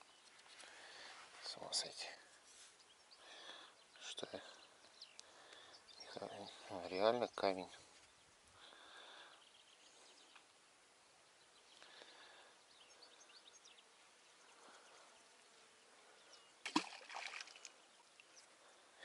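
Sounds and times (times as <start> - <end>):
faint bird chirps: 0.0 - 16.7.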